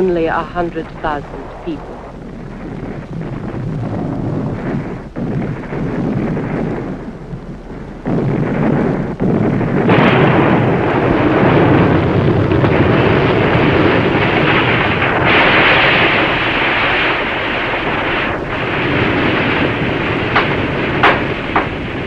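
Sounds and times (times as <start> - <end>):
rumbling bombing explosions: 0.0 - 22.0.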